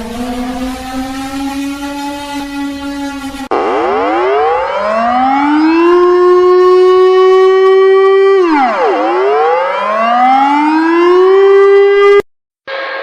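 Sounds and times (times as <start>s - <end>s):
warning siren wailing: 0.0s - 13.0s.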